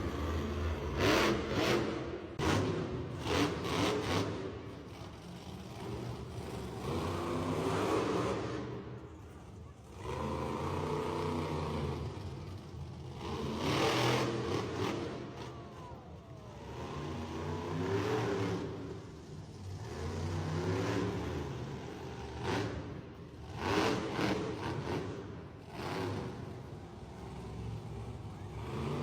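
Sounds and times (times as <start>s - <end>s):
monster truck engines revving: 0.0s - 29.0s.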